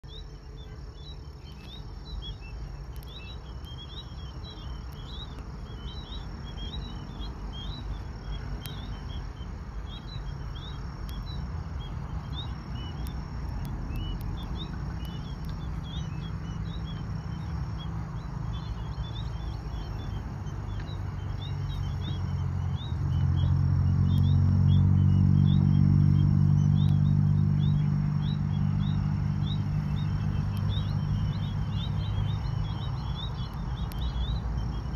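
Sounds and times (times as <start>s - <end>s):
faint high insect-like tone: 0.0s - 34.9s
low outdoor rumble: 0.0s - 34.9s
small birds chirping: 0.0s - 34.9s.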